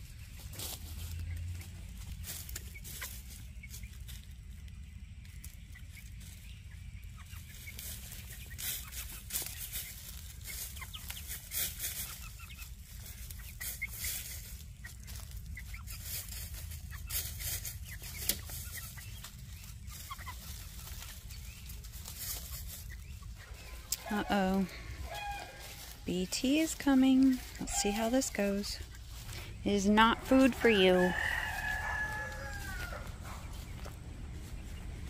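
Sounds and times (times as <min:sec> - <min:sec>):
pecking and scratching in dry leaves: 0:00.0 - 0:35.0
chickens clucking softly: 0:00.2 - 0:26.0, 0:27.2 - 0:35.0.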